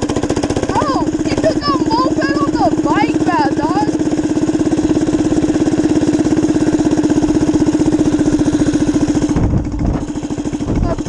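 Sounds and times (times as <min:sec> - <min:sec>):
minibike engine idling: 0:00.0 - 0:11.0.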